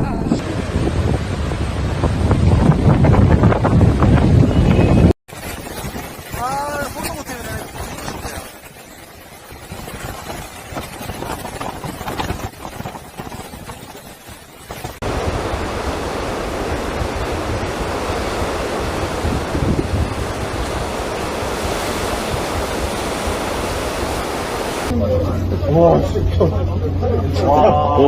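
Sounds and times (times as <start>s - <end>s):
rushing water: 0.0s - 25.6s
wind buffeting microphone: 0.0s - 27.1s
typhoon wind: 0.0s - 28.0s.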